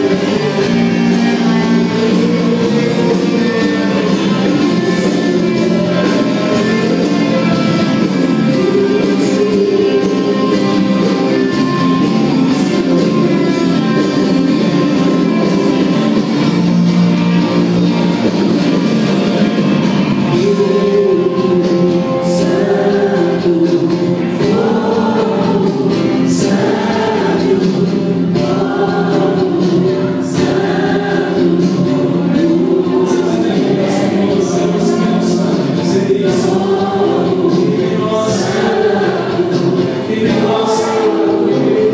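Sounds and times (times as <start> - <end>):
band holding sustained chords: 0.0 - 41.9
group of voices singing: 0.0 - 41.9.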